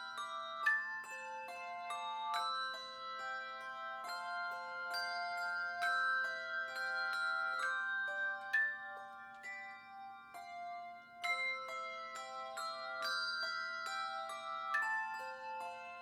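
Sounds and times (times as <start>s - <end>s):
bell-like melody: 0.0s - 16.0s.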